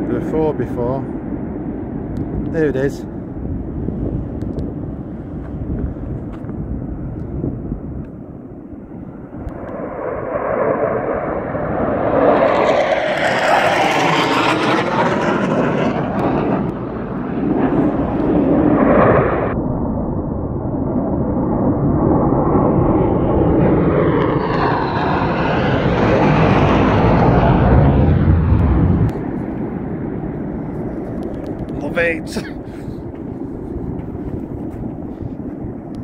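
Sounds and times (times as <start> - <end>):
fighter jet engines roaring: 0.0 - 36.0.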